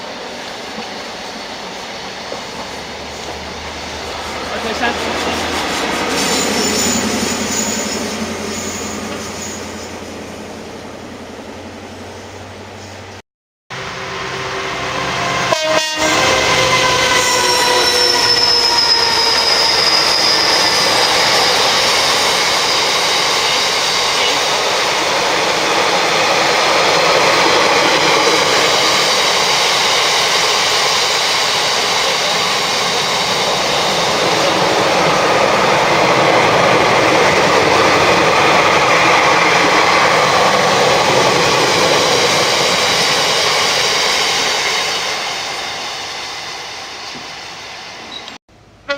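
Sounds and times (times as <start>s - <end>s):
train passing: 0.0s - 48.9s.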